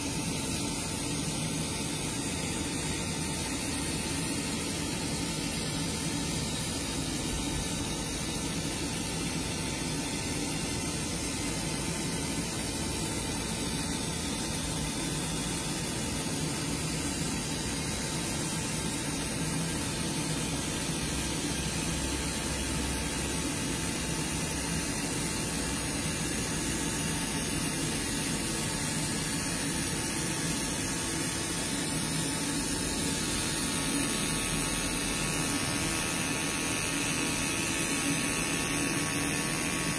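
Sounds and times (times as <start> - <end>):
laser marking machine whirring: 0.0 - 39.9.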